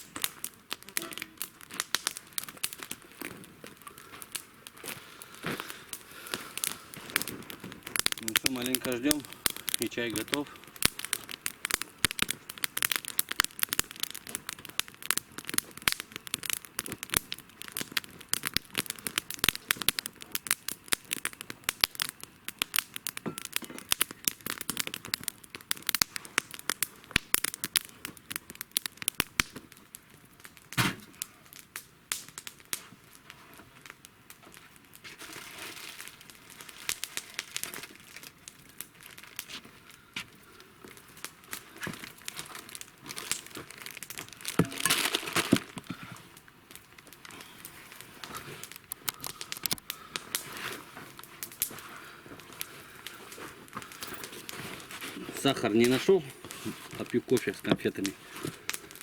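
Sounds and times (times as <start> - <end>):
campfire crackling and snapping: 0.0 - 59.0.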